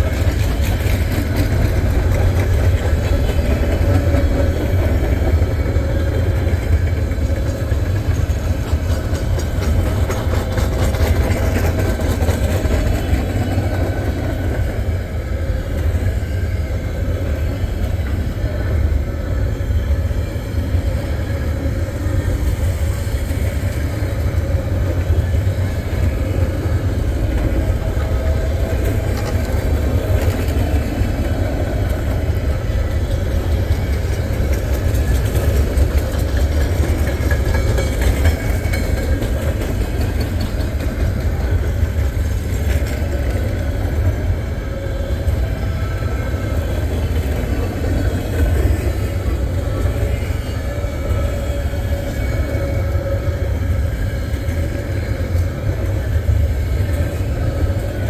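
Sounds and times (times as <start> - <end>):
freight train cars rumbling: 0.0 - 58.0.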